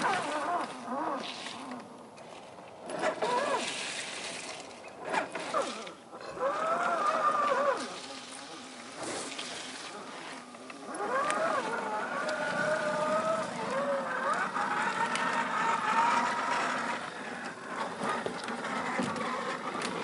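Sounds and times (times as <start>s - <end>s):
electric motor and gearbox whining: 0.0s - 1.9s, 2.8s - 3.6s, 5.0s - 8.0s, 8.8s - 20.0s.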